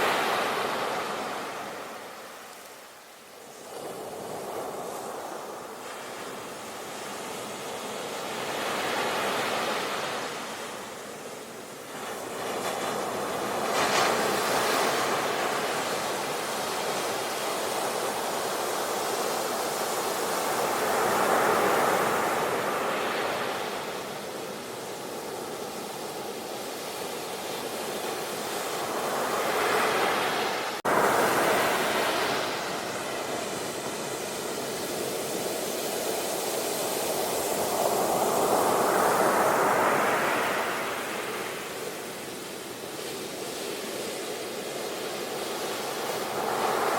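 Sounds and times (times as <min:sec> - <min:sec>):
ocean waves washing onto beach: 0:00.0 - 0:46.9.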